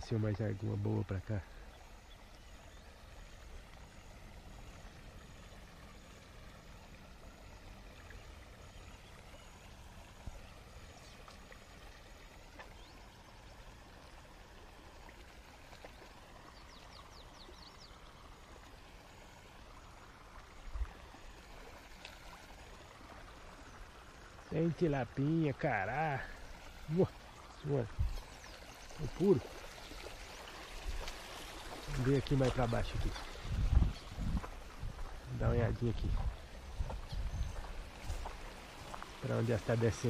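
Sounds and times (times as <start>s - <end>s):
stream water running: 0.0s - 40.0s.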